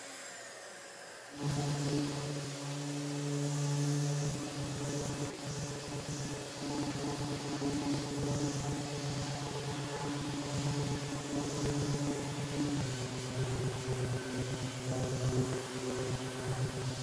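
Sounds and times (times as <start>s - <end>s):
orbital sander on wood: 0.0s - 17.0s.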